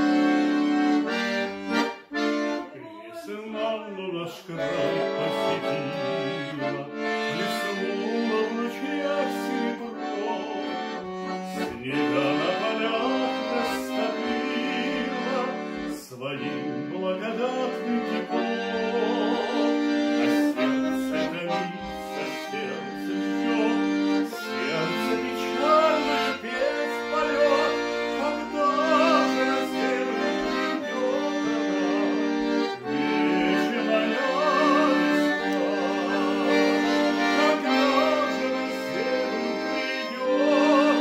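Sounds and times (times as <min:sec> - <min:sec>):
piano accordion playing: 0:00.0 - 0:41.0.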